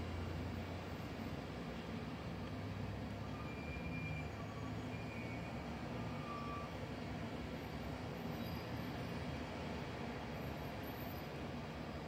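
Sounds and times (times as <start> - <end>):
buses and road traffic rumble: 0.0 - 12.0.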